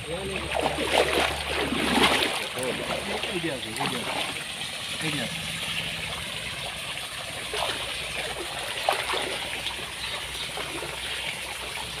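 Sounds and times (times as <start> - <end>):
water trickling over mud: 0.0 - 12.0.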